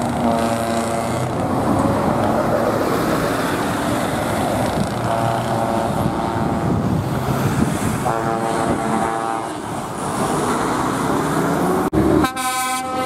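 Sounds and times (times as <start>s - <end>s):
loud lorries driving past: 0.0s - 13.0s.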